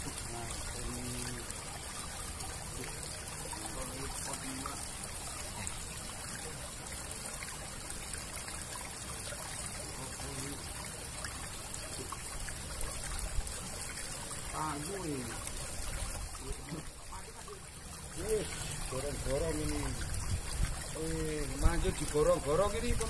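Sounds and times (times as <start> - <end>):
water trickling through culvert: 0.0 - 23.0.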